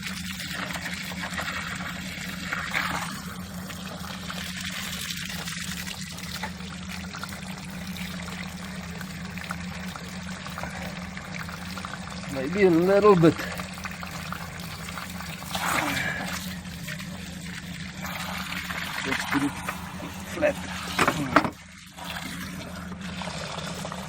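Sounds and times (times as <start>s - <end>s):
water pouring into radiator: 0.0s - 24.0s.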